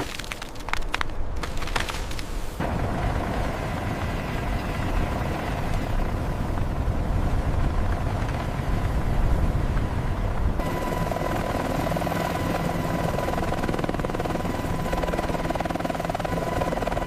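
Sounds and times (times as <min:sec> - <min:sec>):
helicopter rotor and turbine: 0:02.6 - 0:17.0.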